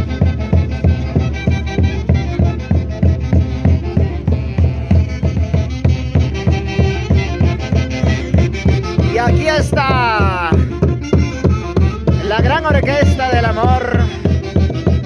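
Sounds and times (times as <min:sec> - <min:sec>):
folk orchestra dance tune: 0:00.0 - 0:15.0.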